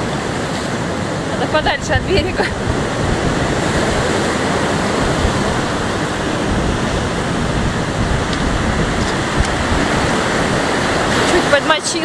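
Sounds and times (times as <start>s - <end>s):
storm waves breaking on shore: 0.0s - 12.0s
wind rumbling on microphone: 0.0s - 12.0s.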